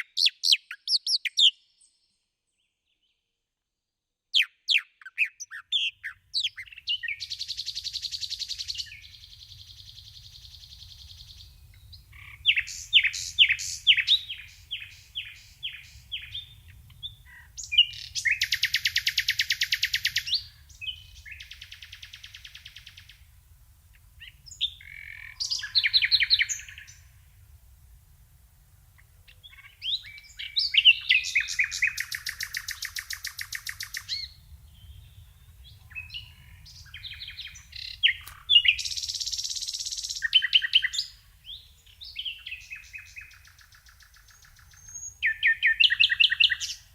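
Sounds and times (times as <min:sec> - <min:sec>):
songbirds singing: 0:00.0 - 0:03.2, 0:04.3 - 0:46.9.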